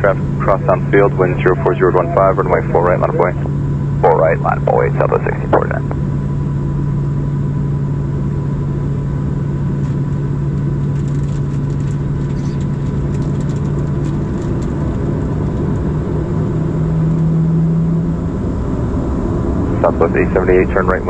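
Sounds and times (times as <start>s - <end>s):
airplane cabin engine drone: 0.0s - 21.0s.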